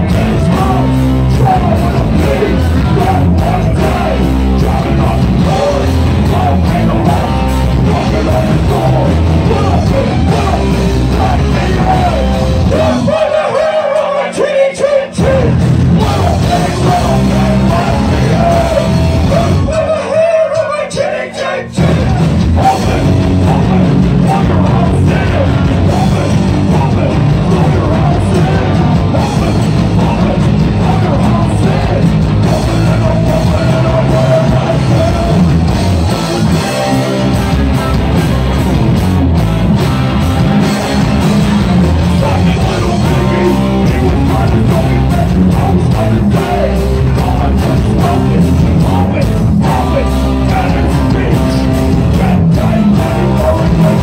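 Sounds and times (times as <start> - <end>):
electric guitar: 0.0 - 14.1, 15.0 - 20.4, 21.8 - 54.0
bass: 0.0 - 54.0
drums: 0.0 - 54.0
vocalist singing and yelling: 0.0 - 54.0.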